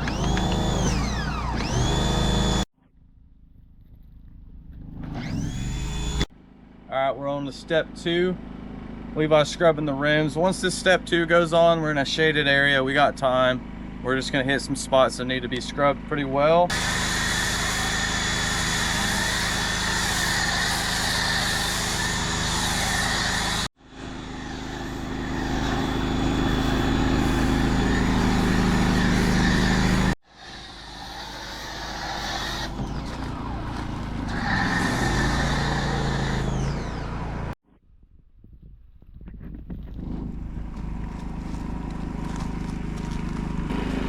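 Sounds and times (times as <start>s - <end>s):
motor drone humming: 0.0s - 2.7s, 4.3s - 6.3s, 7.6s - 37.6s, 39.8s - 44.0s.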